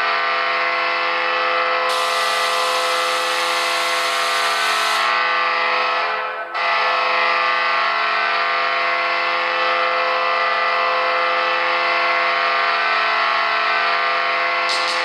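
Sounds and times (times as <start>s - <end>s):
goal horn blast: 0.0s - 10.7s, 11.6s - 15.0s.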